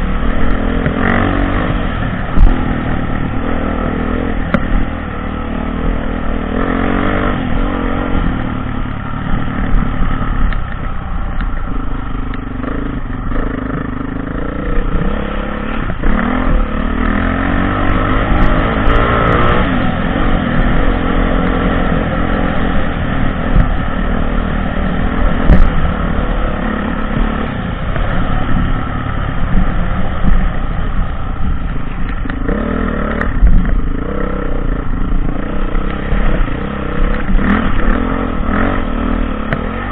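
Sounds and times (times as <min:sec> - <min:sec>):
dirt bike engine revving: 0:00.0 - 0:10.5, 0:12.5 - 0:39.9.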